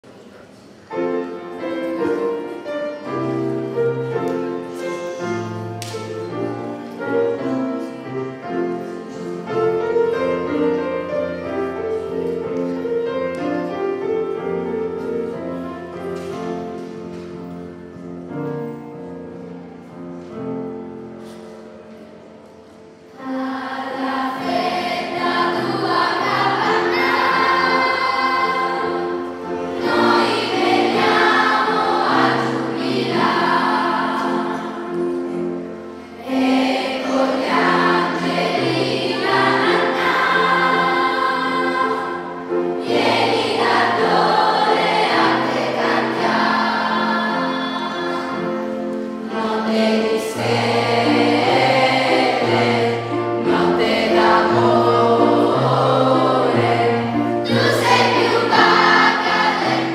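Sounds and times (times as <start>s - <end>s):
piano accompaniment: 0.0s - 59.9s
children's choir singing: 0.9s - 59.9s.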